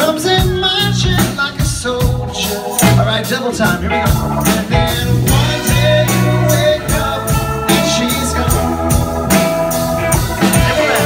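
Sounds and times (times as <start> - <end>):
bass: 0.0 - 11.0
drums beating: 0.0 - 11.0
electric guitars: 0.0 - 11.0.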